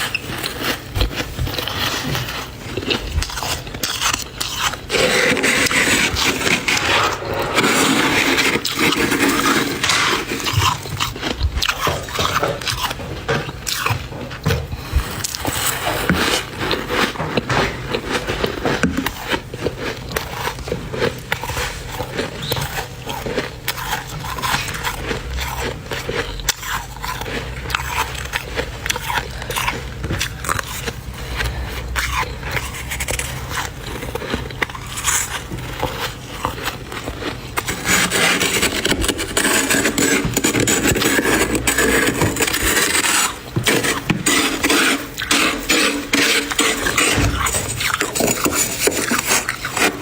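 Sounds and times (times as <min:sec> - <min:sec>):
chewing crunchy frost: 0:00.0 - 0:50.0
spoon scraping frost: 0:00.0 - 0:50.0.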